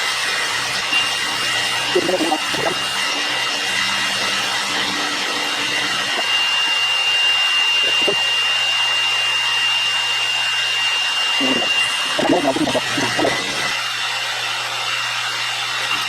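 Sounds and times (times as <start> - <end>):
power tool whining: 0.0 - 16.0.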